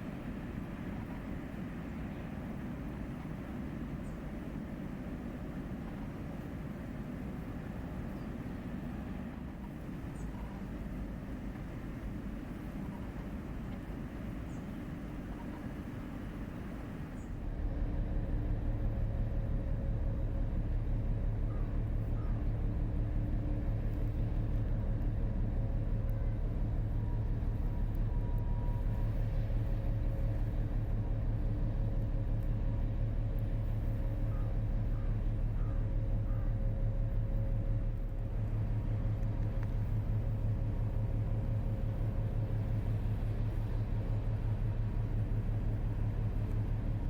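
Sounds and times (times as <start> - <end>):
boat diesel engine rumbling: 0.0 - 47.0.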